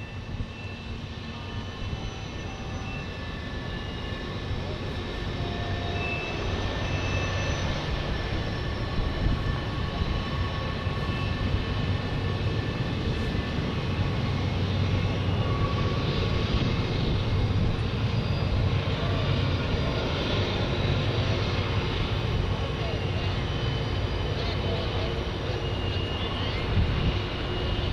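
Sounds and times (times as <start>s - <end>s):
steady engine drone: 0.0s - 27.9s.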